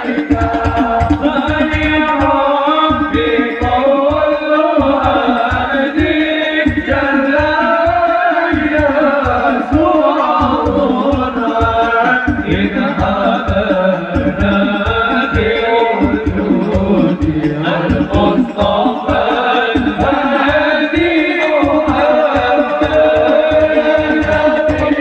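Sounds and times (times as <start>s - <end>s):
devotional singing over loudspeaker: 0.0s - 25.0s
hand drums beating: 0.0s - 25.0s.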